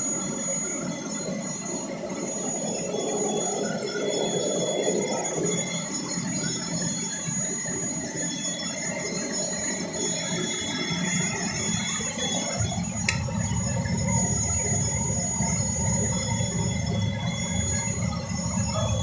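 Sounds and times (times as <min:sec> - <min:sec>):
cutting machine high whine: 0:00.0 - 0:19.0.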